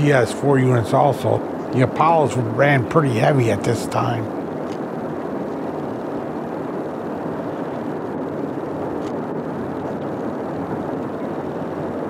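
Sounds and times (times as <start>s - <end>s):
distant freight train rumble: 0.0s - 12.0s.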